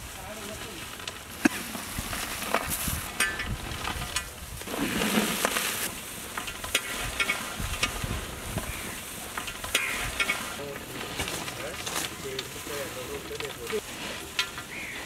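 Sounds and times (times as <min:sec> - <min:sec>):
fries rustling in metal basin: 0:00.0 - 0:15.0.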